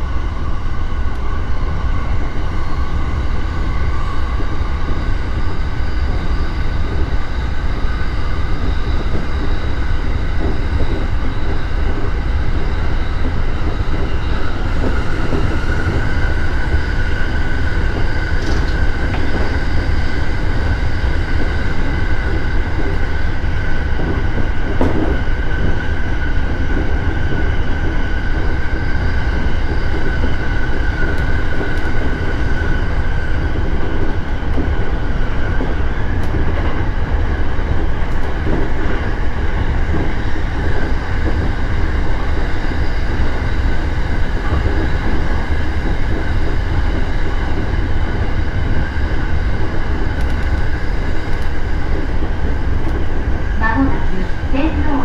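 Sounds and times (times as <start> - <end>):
steady train whine: 0.0 - 55.0
train wheels rumbling on rail: 0.0 - 55.0.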